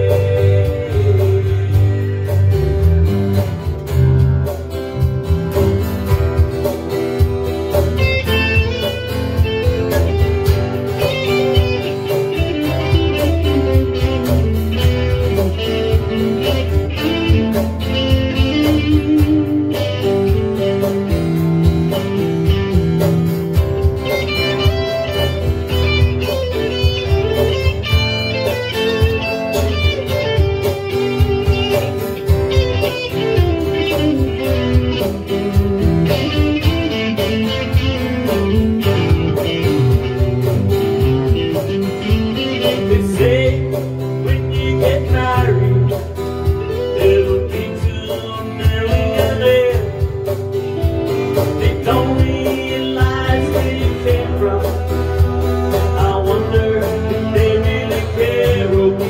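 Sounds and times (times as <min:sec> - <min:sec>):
guitar chords: 0:00.0 - 0:59.0
lead guitar with bending notes: 0:00.0 - 0:59.0.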